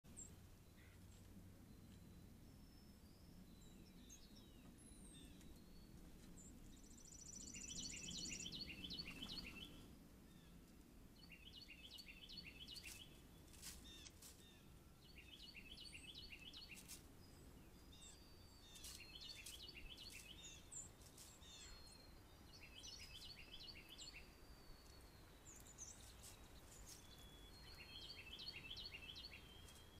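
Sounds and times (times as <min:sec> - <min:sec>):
songbird singing short phrase: 0:01.9 - 0:10.5, 0:13.8 - 0:16.9, 0:17.7 - 0:30.0
other birds chirping: 0:03.7 - 0:10.6, 0:11.2 - 0:30.0.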